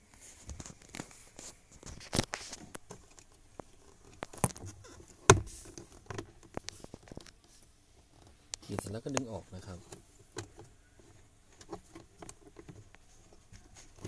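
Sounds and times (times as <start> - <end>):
plastic scraping: 0.4 - 14.0.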